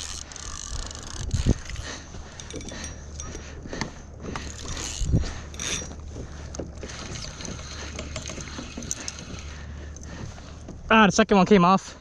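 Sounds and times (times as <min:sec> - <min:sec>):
fishing gear clicking and rattling: 0:00.0 - 0:11.3
water sloshing against hull: 0:00.0 - 0:12.0.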